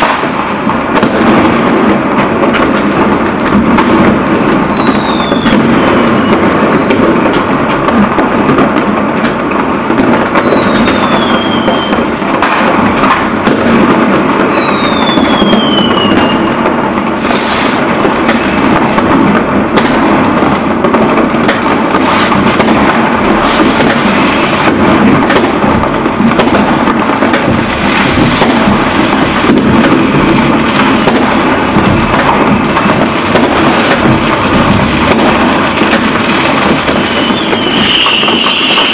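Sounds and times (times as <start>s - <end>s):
fireworks crackling and banging: 0.0s - 38.9s
whistling rockets: 0.0s - 38.9s.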